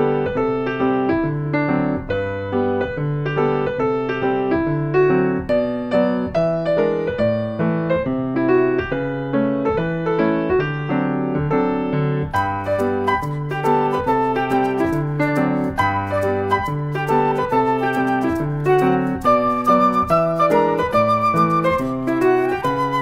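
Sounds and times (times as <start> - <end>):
light electric piano tune: 0.0 - 23.0.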